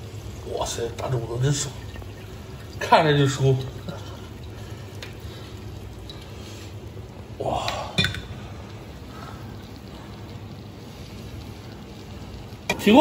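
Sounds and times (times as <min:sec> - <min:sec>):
low steady background hum: 0:00.0 - 0:13.0.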